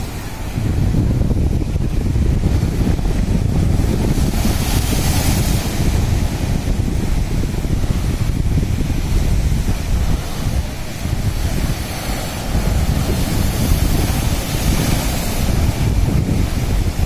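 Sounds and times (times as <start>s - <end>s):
sea surf breaking over sandbags: 0.0s - 17.0s
wave crashing into spray: 0.0s - 17.0s
wind rumble on microphone: 0.0s - 17.0s.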